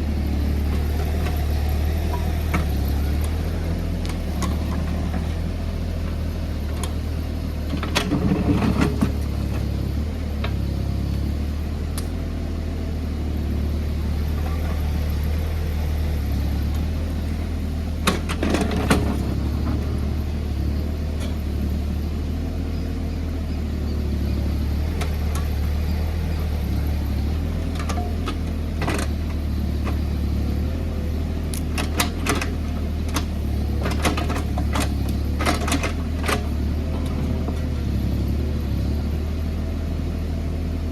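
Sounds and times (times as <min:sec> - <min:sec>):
mini excavator diesel engine running: 0:00.0 - 0:40.9.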